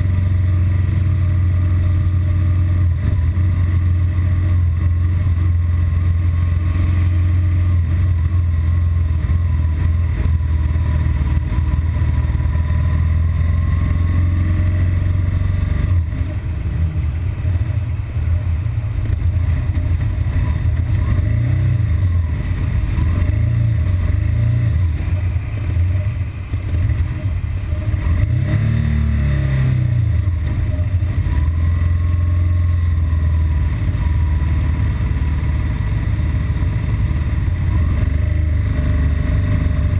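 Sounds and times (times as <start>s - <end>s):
motorcycle engine running rough: 0.0s - 39.9s
motorcycle throttle blips: 0.0s - 39.9s.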